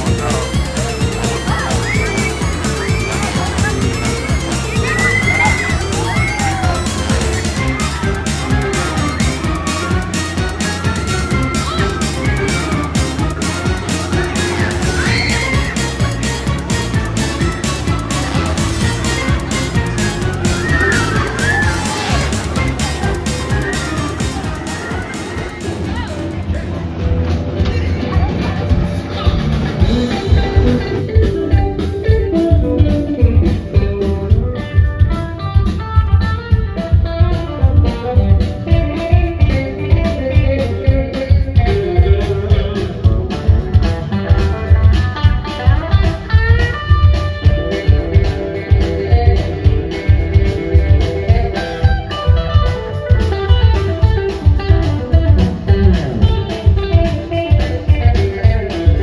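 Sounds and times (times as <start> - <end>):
guitar music over steady beat: 0.0 - 27.3, 28.2 - 59.0.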